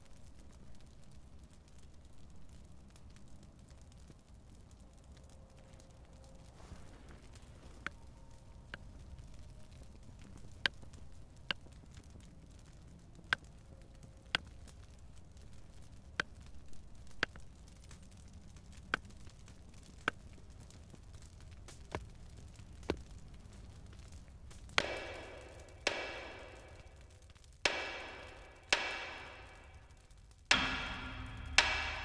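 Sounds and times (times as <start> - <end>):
campfire crackling pops: 0.0 - 32.0.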